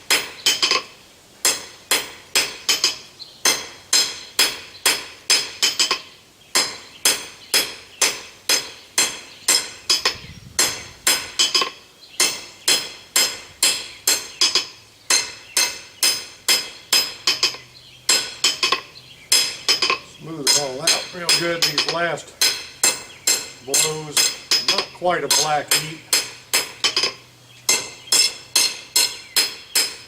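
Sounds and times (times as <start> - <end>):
hammer striking steel on anvil: 0.1 - 6.0, 6.6 - 30.0.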